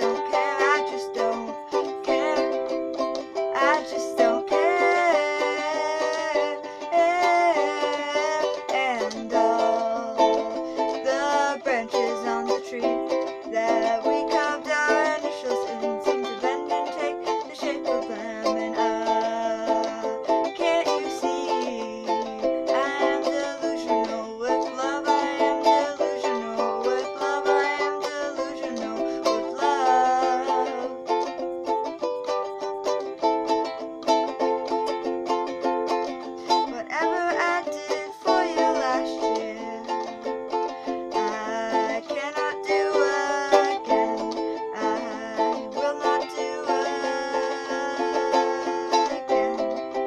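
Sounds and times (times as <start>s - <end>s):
person singing: 0.0s - 50.0s
ukulele strumming: 0.0s - 50.0s.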